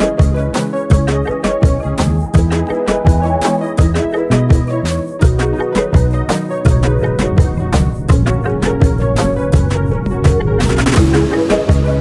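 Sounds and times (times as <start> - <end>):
instrumental music with drum beat: 0.0 - 12.0.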